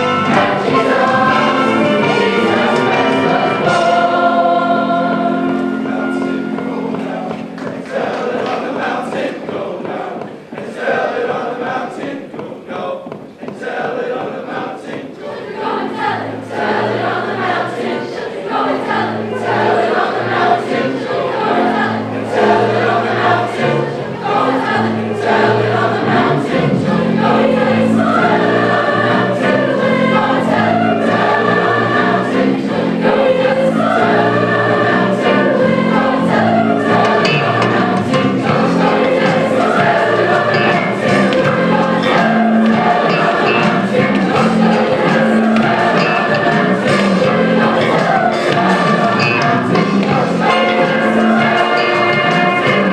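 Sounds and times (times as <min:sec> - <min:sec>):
children's choir singing: 0:00.0 - 0:52.9
musical backing: 0:00.0 - 0:52.9.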